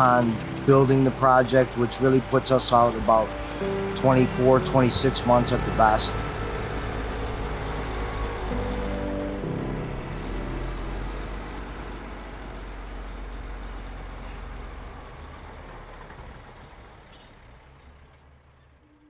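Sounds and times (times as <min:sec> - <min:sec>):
heavy machinery engine rumble: 0:00.0 - 0:19.0.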